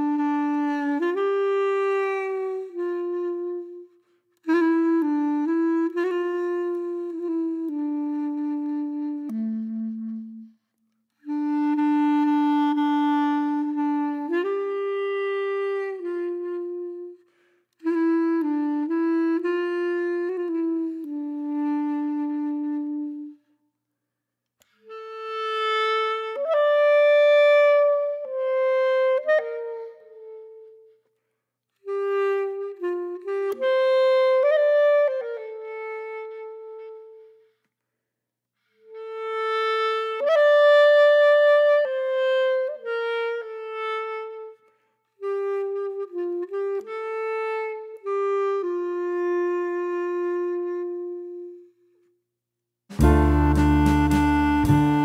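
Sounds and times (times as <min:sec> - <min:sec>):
wind instrument melody: 0:00.0 - 0:23.5, 0:24.6 - 0:31.1, 0:31.8 - 0:37.6, 0:38.6 - 0:52.0, 0:52.9 - 0:55.0.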